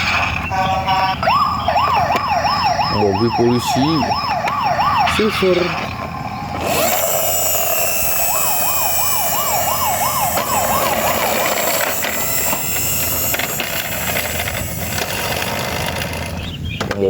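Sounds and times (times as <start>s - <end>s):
toy siren wailing: 0.4s - 15.2s.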